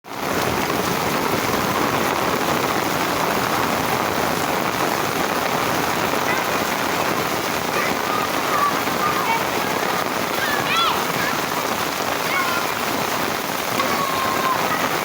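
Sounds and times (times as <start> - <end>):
heavy rain on ground: 0.0 - 15.0.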